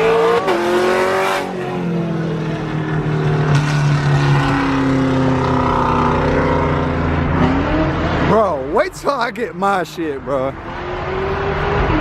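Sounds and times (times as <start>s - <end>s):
car engine accelerating hard: 0.0s - 8.7s, 10.2s - 12.0s.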